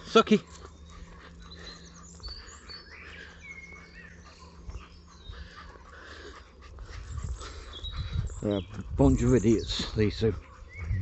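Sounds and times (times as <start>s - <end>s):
low steady background hum: 0.0s - 9.6s
birds singing and chirping: 0.0s - 11.0s.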